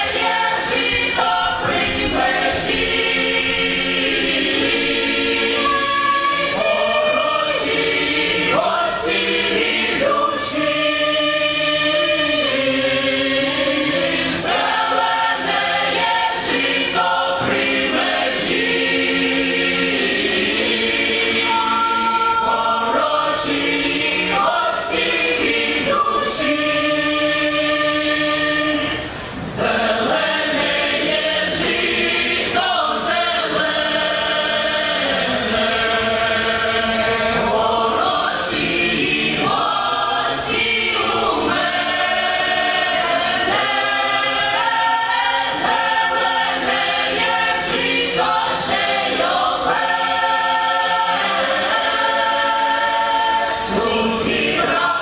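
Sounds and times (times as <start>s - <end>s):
choir singing folk song: 0.0s - 55.0s.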